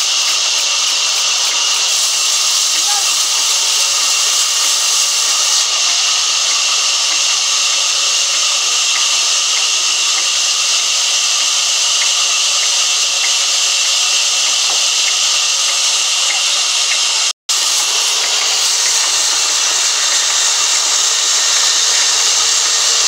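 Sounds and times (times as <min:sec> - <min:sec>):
band saw cutting wood: 0:00.0 - 0:23.0.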